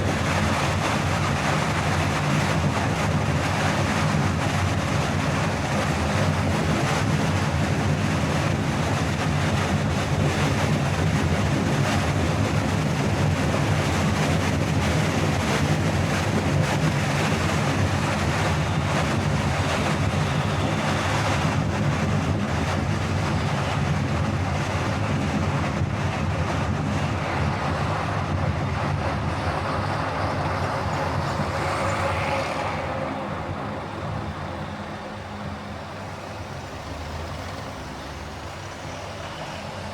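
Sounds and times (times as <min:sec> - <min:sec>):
car road and engine noise: 0:00.0 - 0:39.9
tyre and wind hiss: 0:00.0 - 0:39.9.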